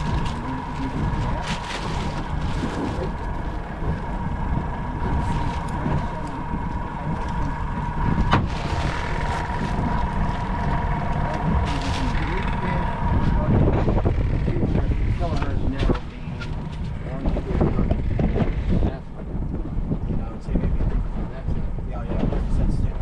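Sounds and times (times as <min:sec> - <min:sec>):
outboard motor whining: 0:00.0 - 0:23.0
wind buffeting microphone: 0:00.0 - 0:23.0.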